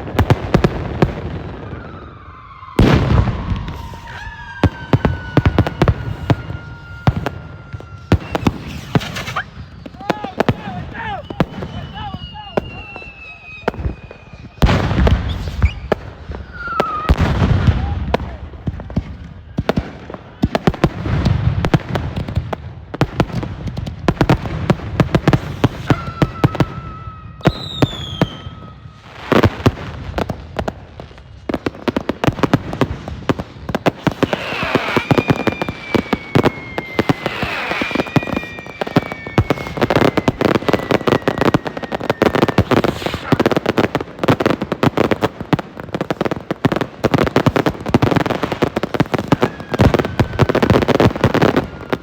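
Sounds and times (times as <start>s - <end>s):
firecracker bangs and crackling: 0.0s - 52.0s
whistling fireworks: 0.0s - 52.0s.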